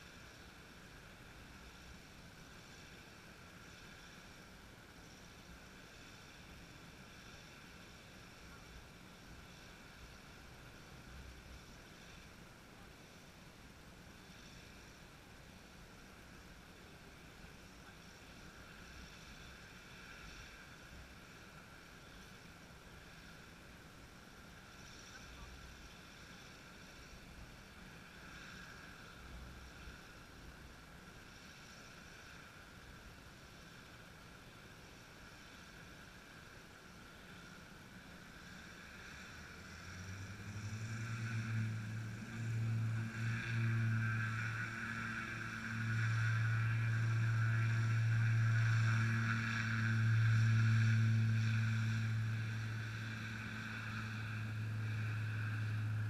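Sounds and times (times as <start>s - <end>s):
deep engine drone: 0.0s - 56.0s
faint background noise: 0.0s - 56.0s.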